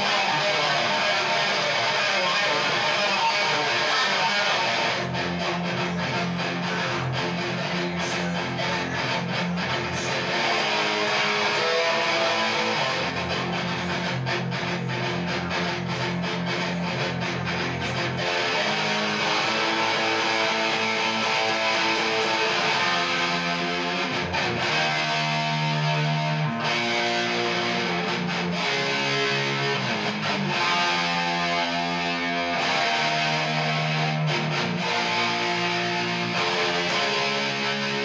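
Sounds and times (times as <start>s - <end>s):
electric guitar riff: 0.0s - 38.0s.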